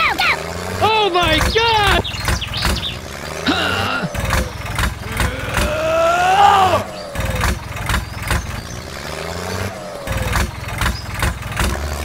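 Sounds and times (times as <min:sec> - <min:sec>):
tractor engine chugging unevenly: 0:00.0 - 0:12.0.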